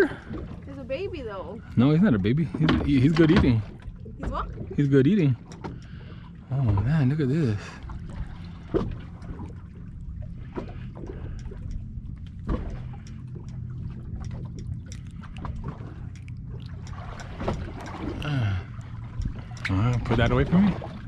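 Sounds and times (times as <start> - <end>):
steady low hum: 0.0 - 21.0
water lapping against boat hull: 0.0 - 21.0.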